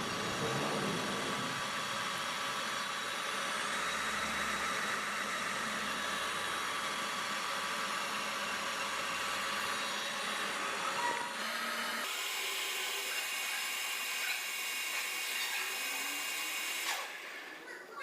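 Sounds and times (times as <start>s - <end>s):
metal lathe running: 0.0s - 17.7s.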